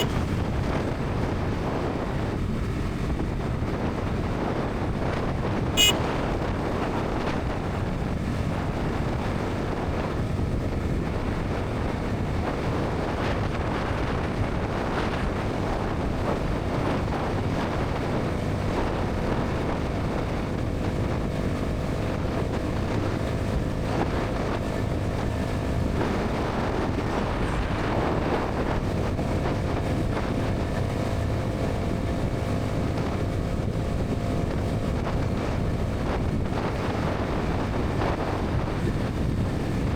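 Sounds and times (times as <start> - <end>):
motorcycle engine at highway speed: 0.0 - 39.9
wind rush on microphone: 0.0 - 39.9.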